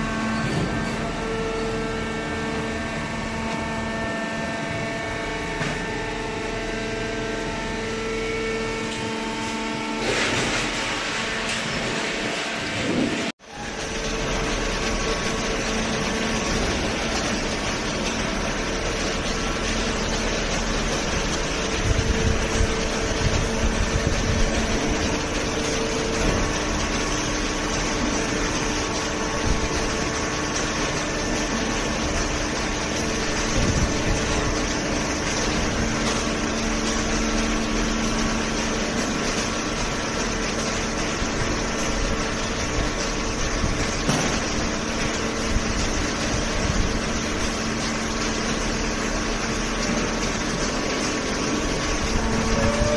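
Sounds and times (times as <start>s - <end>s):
baler machine humming: 0.0s - 52.9s
machine knocks and clatter: 0.1s - 1.4s, 10.0s - 52.9s.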